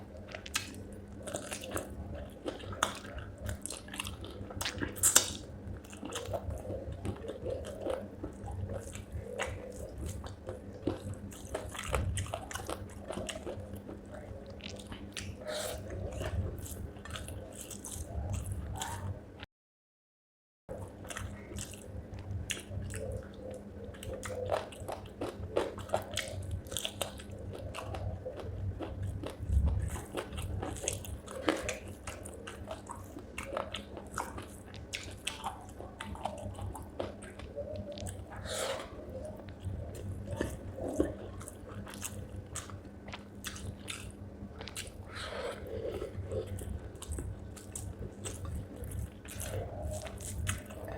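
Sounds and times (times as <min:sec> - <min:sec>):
person chewing with wet crunches: 0:00.0 - 0:19.1, 0:20.7 - 0:50.9.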